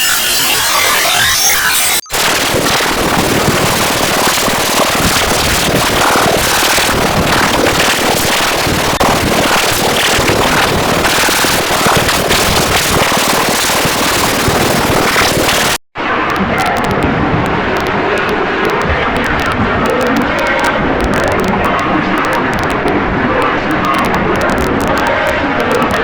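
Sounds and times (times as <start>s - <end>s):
loud crackling with rapid pops: 2.0s - 26.0s.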